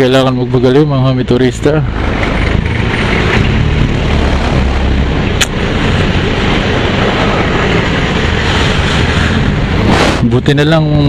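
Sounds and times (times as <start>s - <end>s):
scooter engine and road noise: 0.0s - 11.0s
wind rush: 1.6s - 11.0s.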